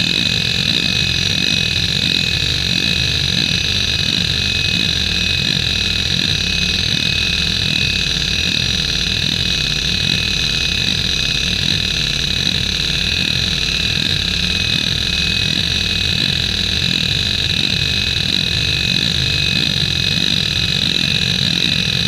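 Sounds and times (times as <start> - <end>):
hard drive head seeking buzz: 0.0 - 22.0
hard drive spindle whine: 0.0 - 22.0.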